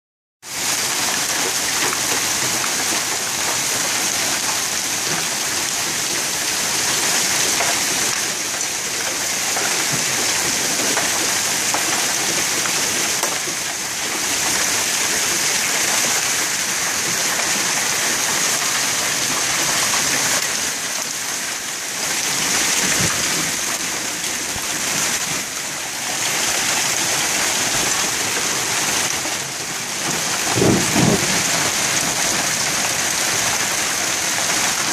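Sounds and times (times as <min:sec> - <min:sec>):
hail and heavy rain: 0:00.4 - 0:34.9.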